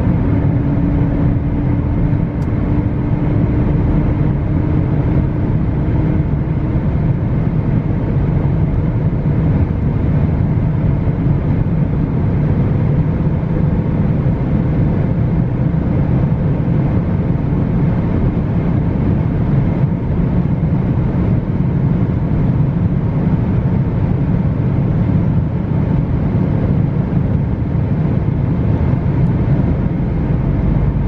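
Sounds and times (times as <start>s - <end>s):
car engine at high revs: 0.0s - 31.0s
road and wind noise: 0.0s - 31.0s.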